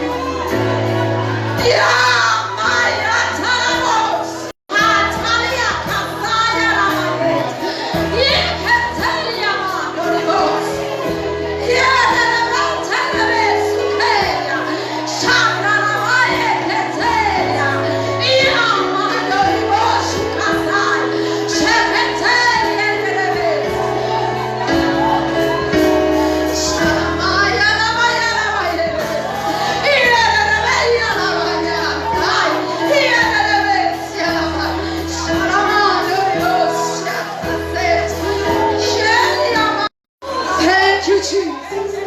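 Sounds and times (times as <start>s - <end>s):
instrumental accompaniment chords: 0.0s - 40.6s
gospel choir singing: 0.0s - 42.0s.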